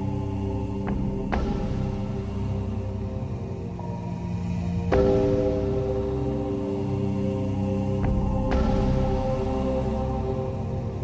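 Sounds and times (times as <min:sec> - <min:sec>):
dark sustained music chords: 0:00.0 - 0:11.0.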